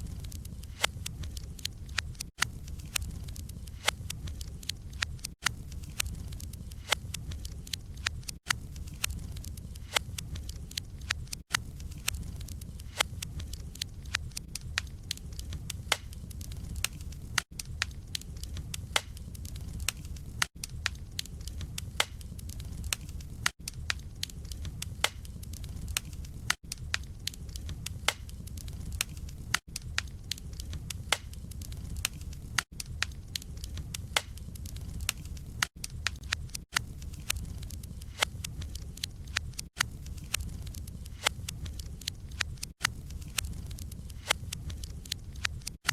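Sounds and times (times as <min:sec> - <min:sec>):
low rumble of flames: 0:00.0 - 0:45.9
wood crackling and popping: 0:00.0 - 0:45.9.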